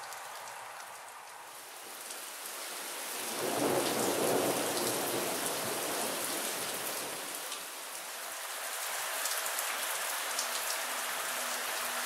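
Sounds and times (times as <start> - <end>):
heavy rain on standing water: 0.0 - 12.0.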